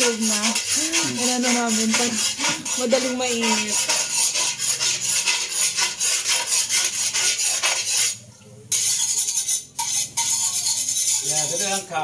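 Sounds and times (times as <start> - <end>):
utensils scraping metal wok: 0.0 - 12.0.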